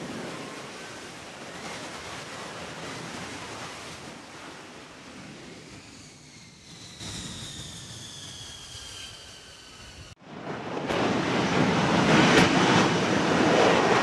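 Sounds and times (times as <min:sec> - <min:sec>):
jet engine whine: 0:00.0 - 0:14.0
sea noise: 0:00.0 - 0:14.0
wind: 0:00.0 - 0:14.0.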